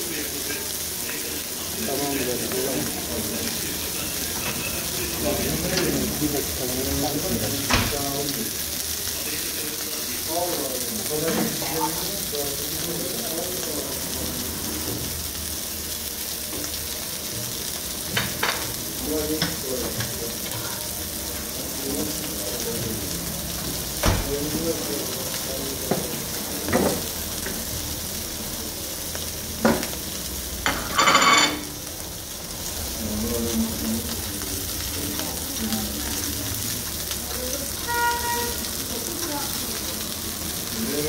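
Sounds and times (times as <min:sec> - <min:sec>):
patties sizzling on a grill: 0:00.0 - 0:41.0.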